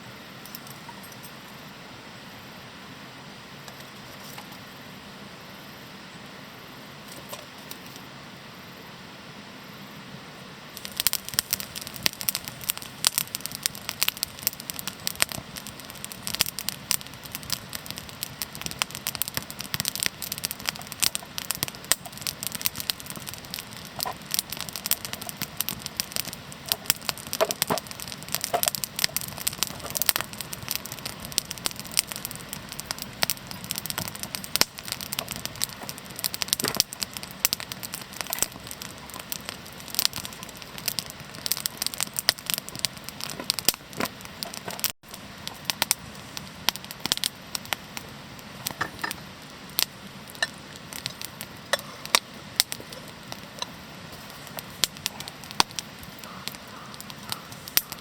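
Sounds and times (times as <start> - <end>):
campfire crackling and popping: 0.3 - 1.6, 3.6 - 4.8, 7.0 - 8.1, 10.7 - 58.0.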